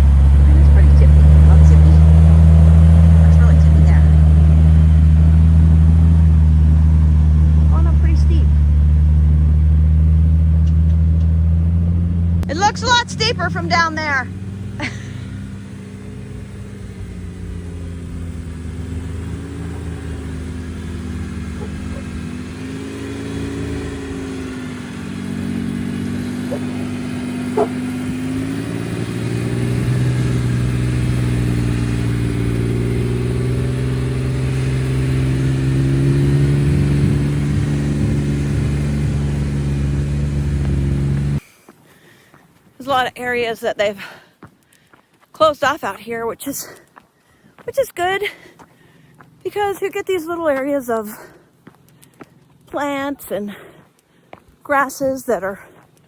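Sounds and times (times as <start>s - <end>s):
off-road vehicle engine climbing: 0.0s - 56.0s.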